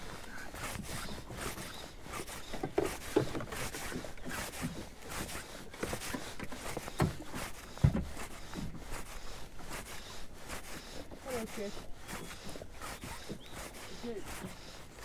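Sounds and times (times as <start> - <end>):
fishing rod and line rustling: 0.0 - 15.0.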